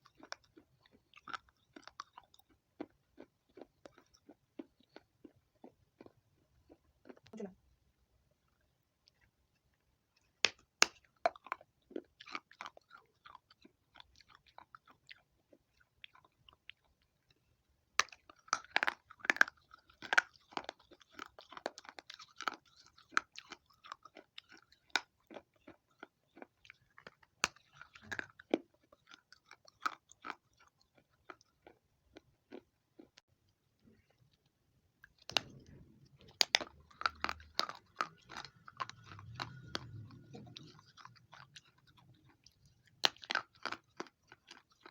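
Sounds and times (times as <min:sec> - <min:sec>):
crunching and chewing clay: 0:00.0 - 0:07.6, 0:08.3 - 0:44.9.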